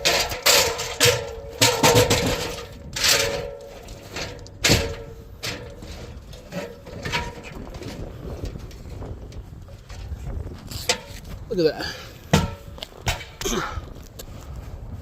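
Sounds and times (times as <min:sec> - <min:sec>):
sharp knocks and scrapes: 0:00.0 - 0:11.4, 0:12.3 - 0:13.6.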